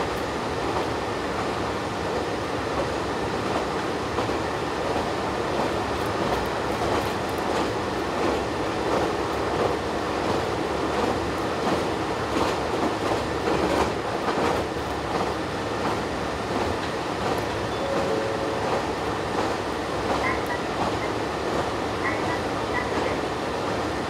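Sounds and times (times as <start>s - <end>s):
train engine and wheels rumbling: 0.0s - 24.0s.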